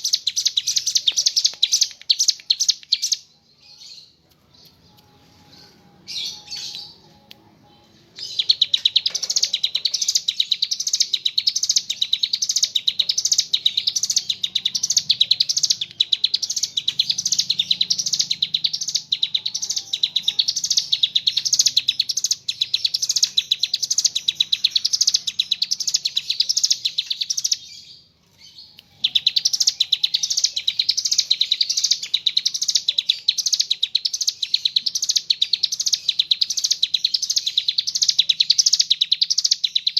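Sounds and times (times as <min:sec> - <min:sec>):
bird singing a fast trill: 0:00.0 - 0:04.8, 0:08.2 - 0:39.9.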